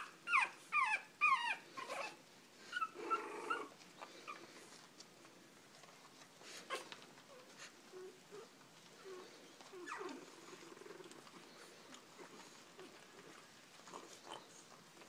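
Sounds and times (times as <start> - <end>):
puppies squeaking and grunting: 0.0 - 5.0, 6.0 - 15.0
puppy whining: 0.0 - 15.0.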